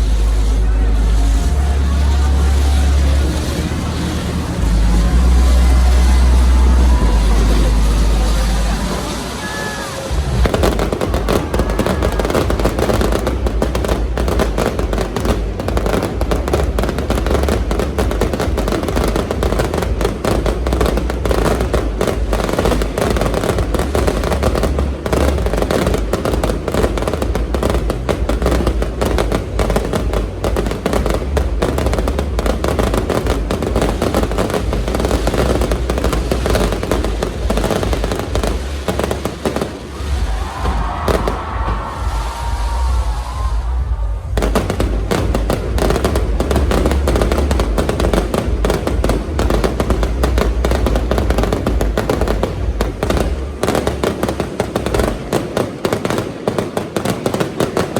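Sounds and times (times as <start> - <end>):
heavy low rumble: 0.0 - 9.4, 10.0 - 56.4
fireworks bangs and crackles: 0.0 - 57.9.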